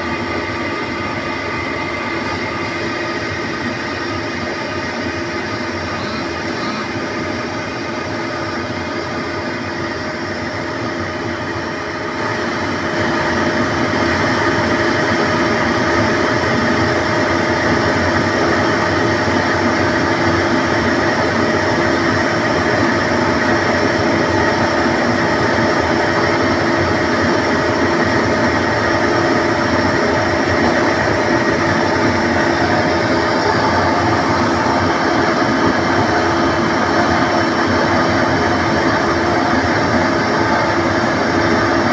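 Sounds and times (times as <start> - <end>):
air compressor humming and whining: 0.0 - 41.9.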